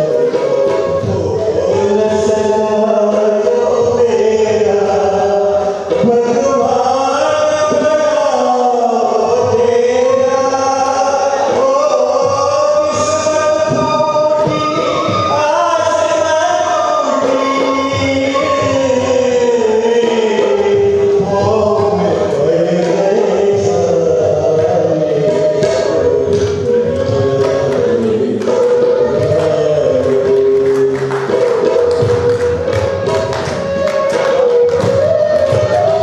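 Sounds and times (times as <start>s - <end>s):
man singing slow melody: 0.0s - 31.7s.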